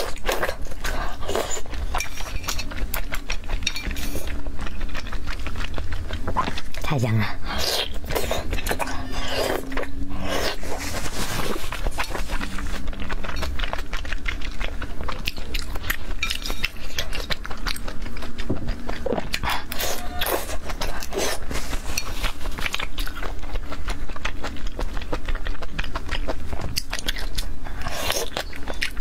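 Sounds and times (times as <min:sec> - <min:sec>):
slurping and chewing: 0:00.0 - 0:29.0.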